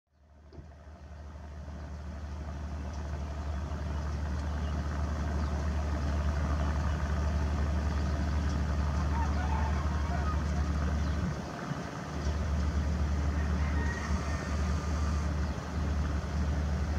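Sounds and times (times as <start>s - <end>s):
vehicle engine idling: 0.2s - 16.9s.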